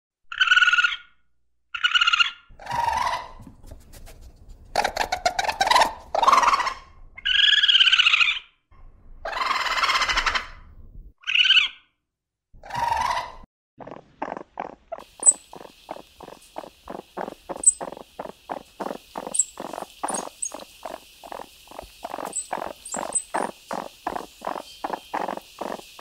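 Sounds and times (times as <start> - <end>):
high-pitched animal calls: 0.3 - 3.4, 4.8 - 8.6, 9.2 - 10.6, 11.2 - 11.9, 12.6 - 26.0.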